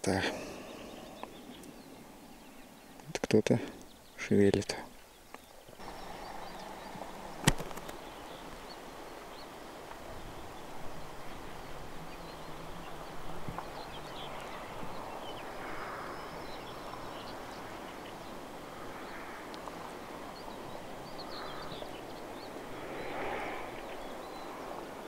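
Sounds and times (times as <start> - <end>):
steady outdoor hiss: 0.0 - 25.0
faint scattered ticks: 3.0 - 24.8.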